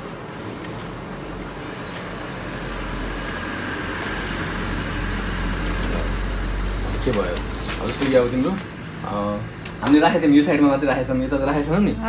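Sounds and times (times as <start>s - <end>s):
laser printer whirring: 0.0s - 11.9s.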